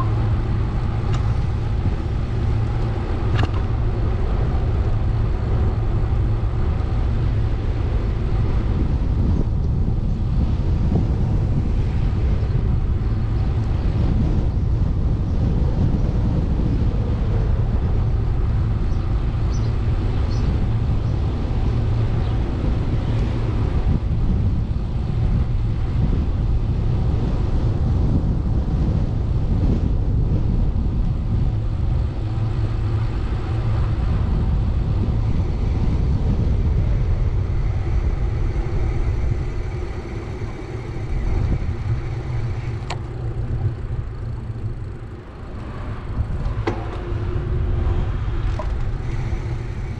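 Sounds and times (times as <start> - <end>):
wind and road rumble: 0.0 - 49.9.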